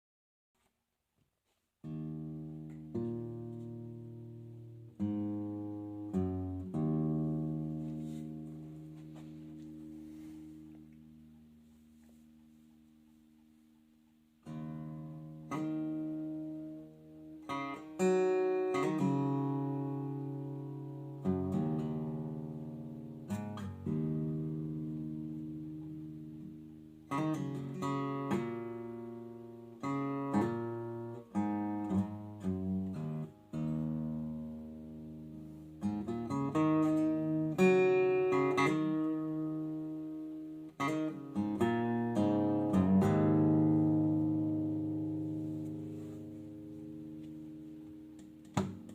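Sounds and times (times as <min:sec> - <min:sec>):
acoustic guitar chords: 0:01.8 - 0:48.9.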